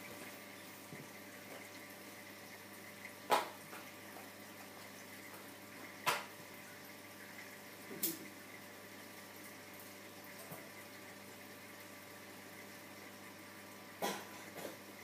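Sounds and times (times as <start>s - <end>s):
aquarium equipment hum: 0.0s - 15.0s.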